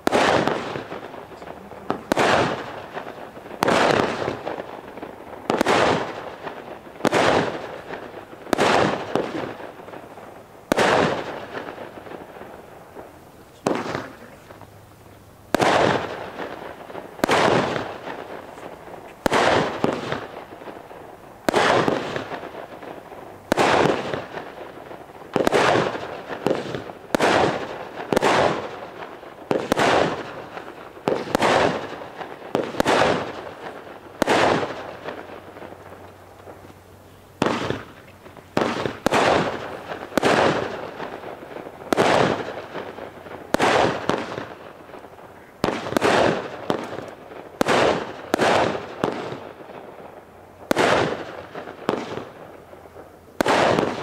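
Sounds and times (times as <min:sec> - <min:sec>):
fireworks bursting with sharp bangs: 0:00.0 - 0:54.0.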